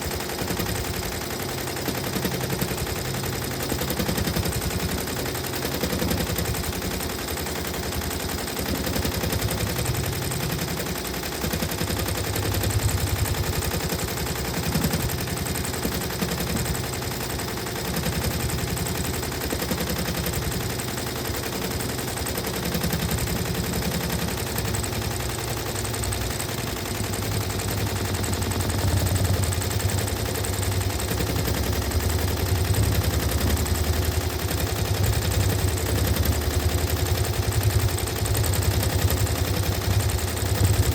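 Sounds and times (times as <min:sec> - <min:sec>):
sewing machine stitching: 0:00.0 - 0:40.9.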